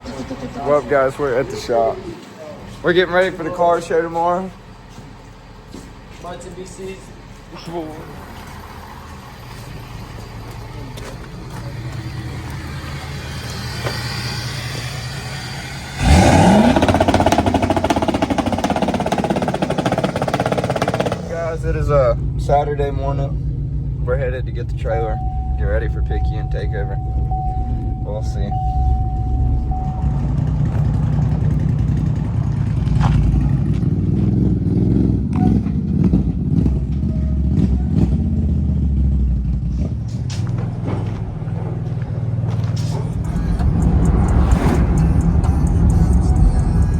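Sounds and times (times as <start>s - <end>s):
vehicle engine revving: 8.0s - 46.9s.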